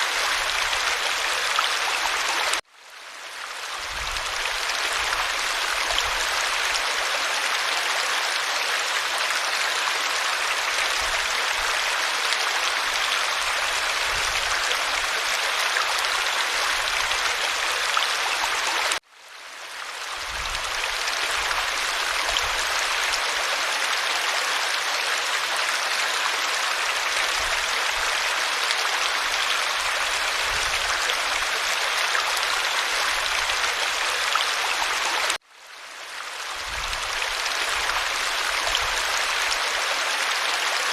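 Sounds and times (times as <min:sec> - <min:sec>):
creek water running: 0:00.0 - 0:40.9.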